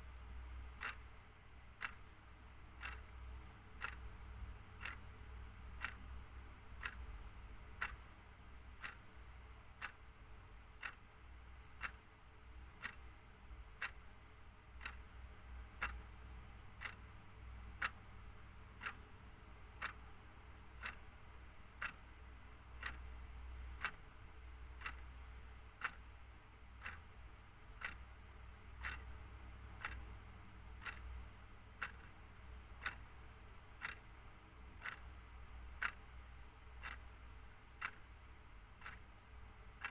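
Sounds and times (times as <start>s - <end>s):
faint low hum: 0.0s - 39.9s
clock ticking: 0.3s - 39.9s.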